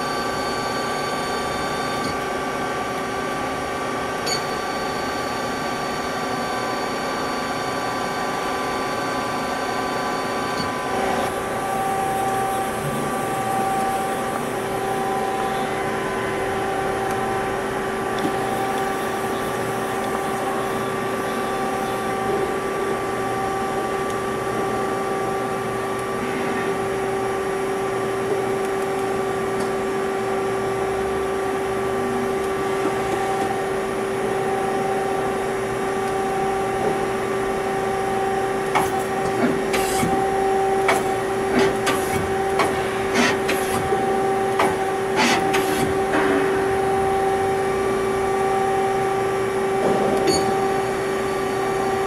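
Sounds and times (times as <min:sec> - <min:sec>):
lathe humming and whining: 0:00.0 - 0:52.0.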